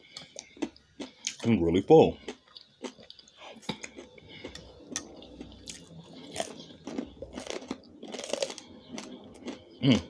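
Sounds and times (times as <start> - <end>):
person chewing crunchy food: 0.0 - 10.0.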